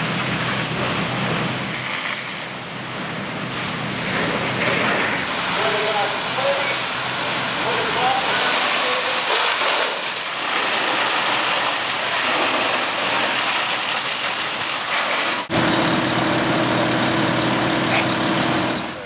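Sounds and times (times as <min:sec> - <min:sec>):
fire hose spraying water: 0:00.0 - 0:18.7
fire engine motor humming: 0:00.0 - 0:19.0.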